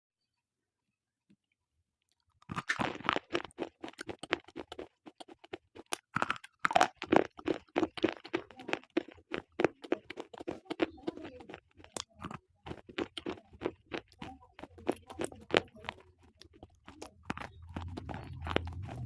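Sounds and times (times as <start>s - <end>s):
chalky pencil crunching: 2.4s - 19.0s.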